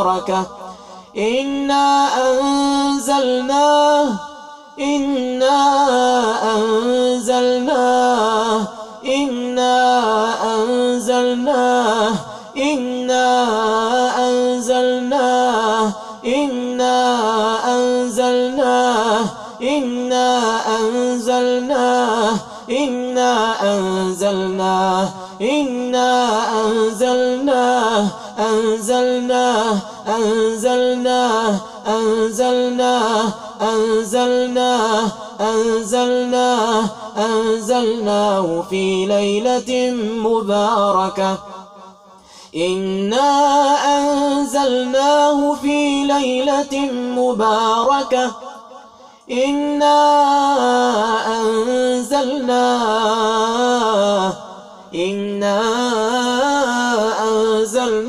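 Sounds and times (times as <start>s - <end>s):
man chanting melodically: 0.0s - 58.0s.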